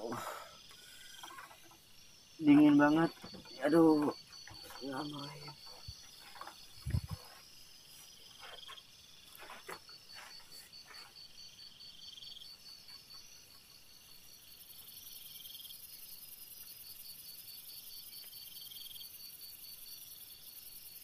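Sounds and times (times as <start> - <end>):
insects trilling: 0.0 - 21.0
second insect trill: 0.0 - 21.0.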